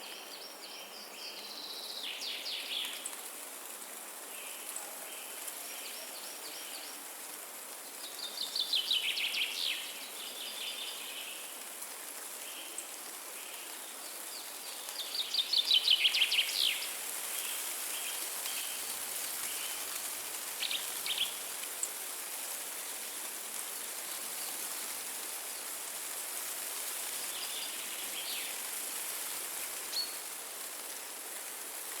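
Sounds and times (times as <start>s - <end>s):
wind hissing in trees: 0.0s - 32.0s.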